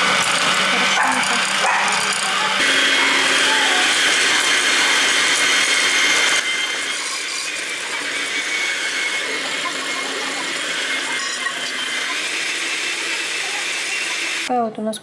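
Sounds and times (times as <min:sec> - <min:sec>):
electric hand mixer running: 0:00.0 - 0:14.5.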